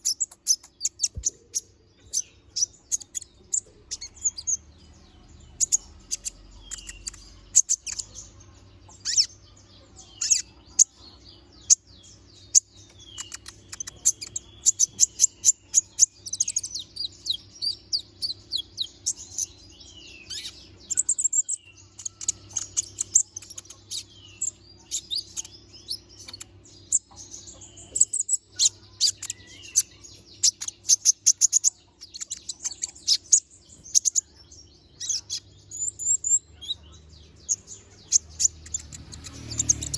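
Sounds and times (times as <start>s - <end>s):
faint low hum: 0.0s - 39.9s
sunbird singing chirps and trills: 0.0s - 39.9s.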